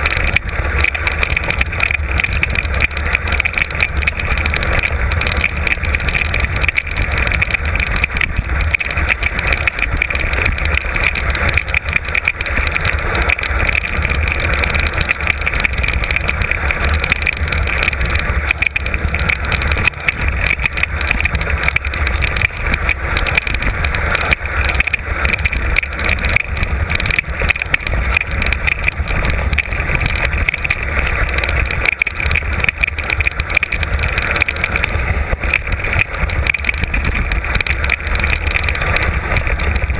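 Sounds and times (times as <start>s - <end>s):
bike rattling and knocking: 0.0s - 39.9s
wind rumble on microphone: 0.0s - 39.9s.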